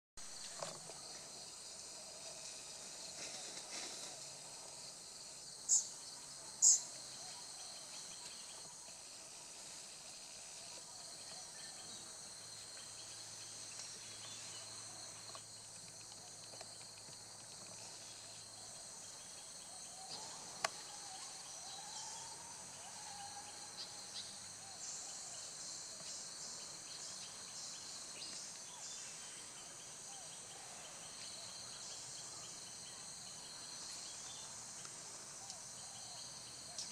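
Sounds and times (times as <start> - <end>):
forest insects buzzing: 0.2 - 36.9.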